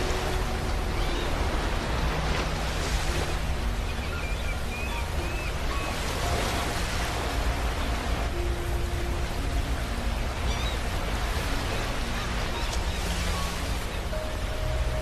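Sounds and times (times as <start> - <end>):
ocean waves washing on beach: 0.0 - 15.0.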